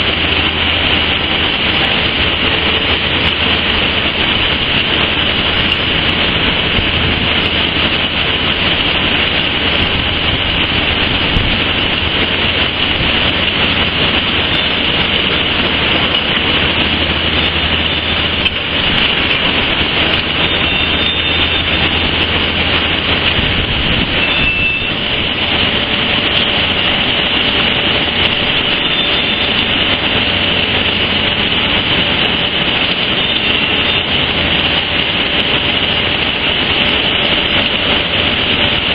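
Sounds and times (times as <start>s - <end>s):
steady rushing roar: 0.0s - 38.9s.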